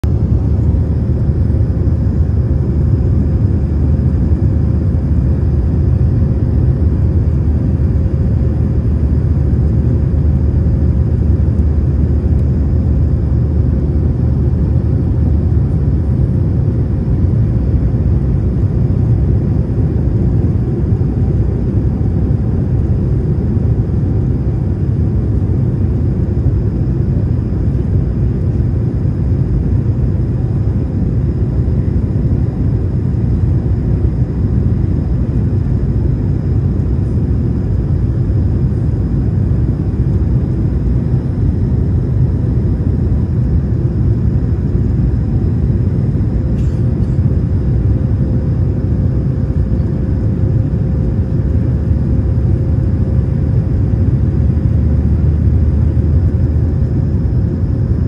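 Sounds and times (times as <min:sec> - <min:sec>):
faint steady hum: 0:00.0 - 0:58.0
low rumble of engines and airflow: 0:00.0 - 0:58.0.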